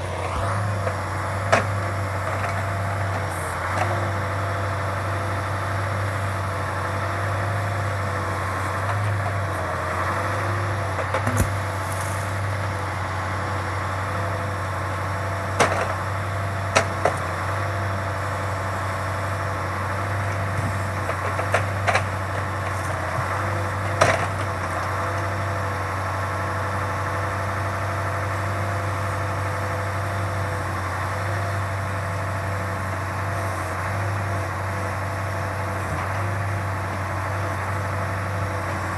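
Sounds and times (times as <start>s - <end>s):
engine running with whine: 0.0s - 38.9s.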